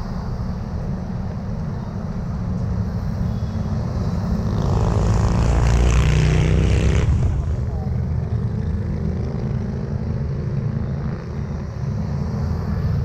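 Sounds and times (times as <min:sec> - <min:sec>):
road traffic engine rumble: 0:00.0 - 0:13.0.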